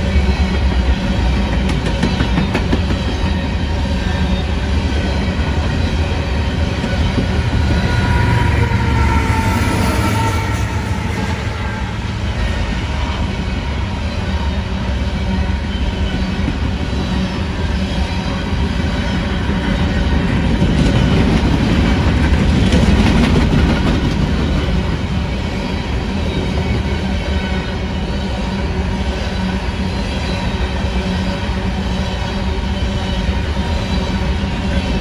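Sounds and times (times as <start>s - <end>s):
freight train wheels rumbling and rattling: 0.0s - 35.0s.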